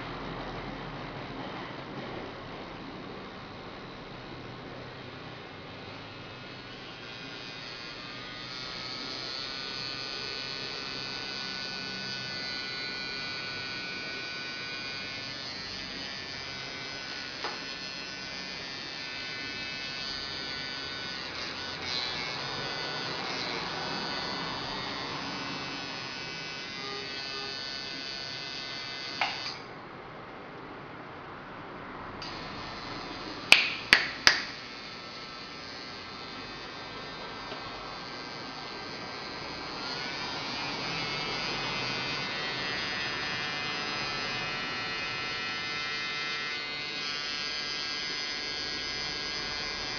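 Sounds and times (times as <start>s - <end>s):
tattoo machine motor buzzing: 2.7s - 29.8s, 32.2s - 49.9s
tattoo machine click: 6.6s - 29.7s, 32.2s - 49.9s.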